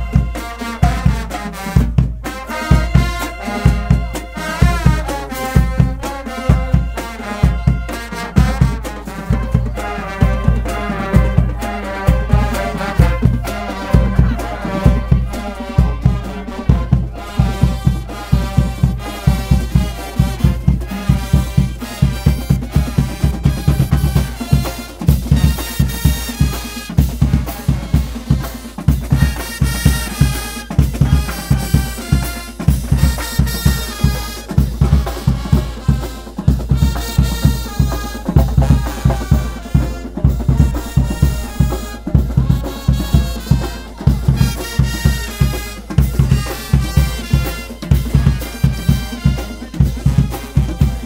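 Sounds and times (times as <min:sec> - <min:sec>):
bass and snare drumbeat: 0:00.0 - 0:51.0
brass band playing upbeat tune: 0:00.0 - 0:51.0.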